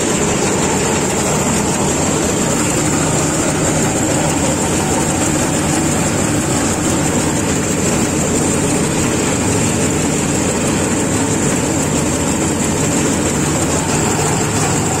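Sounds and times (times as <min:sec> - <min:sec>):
combine harvester running with whine: 0:00.0 - 0:15.0.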